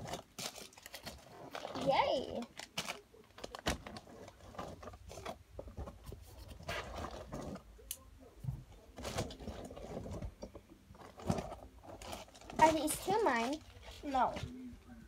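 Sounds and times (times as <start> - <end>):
plastic packaging rustling: 0.0 - 7.8, 8.7 - 14.6.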